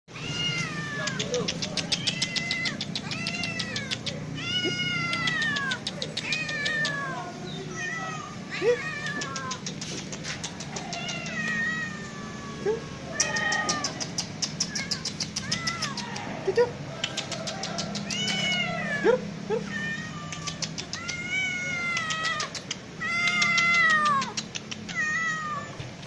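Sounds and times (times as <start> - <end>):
cats meowing: 0.1 - 16.4, 17.2 - 26.0.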